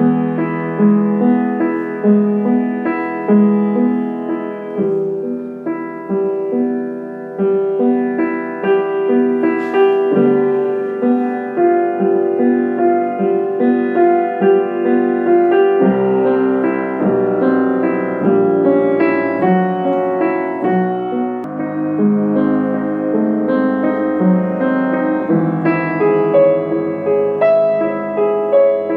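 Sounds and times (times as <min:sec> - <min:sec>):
solo piano piece: 0:00.0 - 0:28.9.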